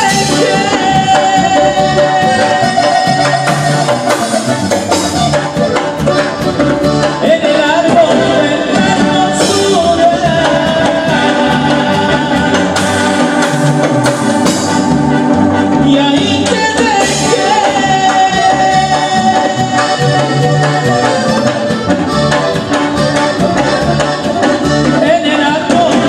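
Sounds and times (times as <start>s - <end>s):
regional band music with singing: 0.0s - 26.0s.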